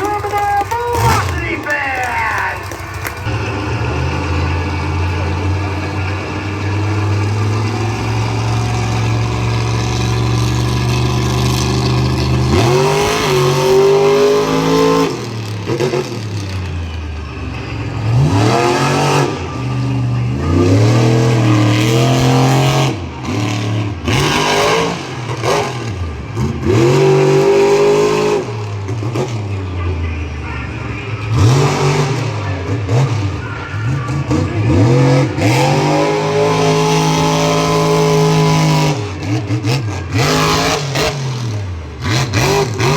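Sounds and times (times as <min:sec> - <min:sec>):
truck engine idling and revving: 0:00.0 - 0:42.9.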